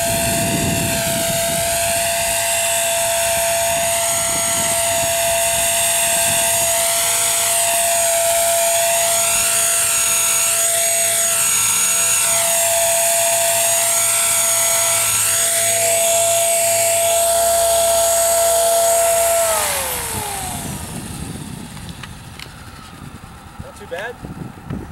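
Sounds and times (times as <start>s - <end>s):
rc helicopter motor whine: 0.0s - 24.9s
rotor blades whirring: 0.0s - 24.9s.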